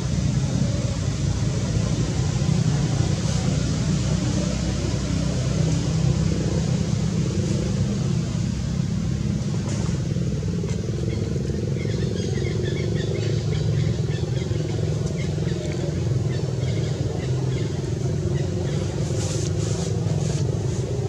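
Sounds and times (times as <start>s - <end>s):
motor engine rumbling: 0.0s - 21.0s.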